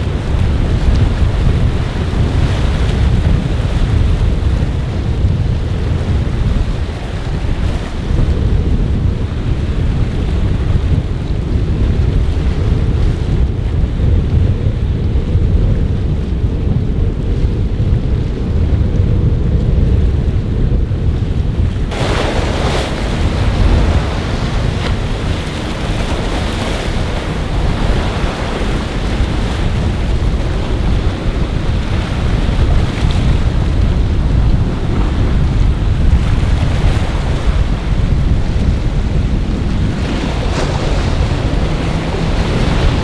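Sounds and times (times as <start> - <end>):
waves breaking: 0.0 - 43.0
wind buffeting microphone: 0.0 - 43.0.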